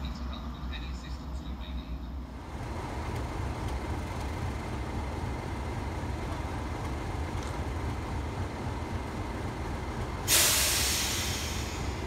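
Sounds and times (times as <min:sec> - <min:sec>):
diesel locomotive engines running: 0:00.0 - 0:12.0.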